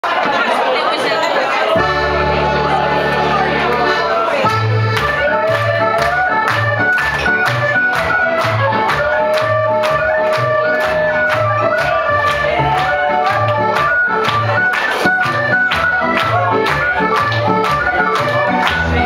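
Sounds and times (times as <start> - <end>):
dance band music: 1.7 - 19.0.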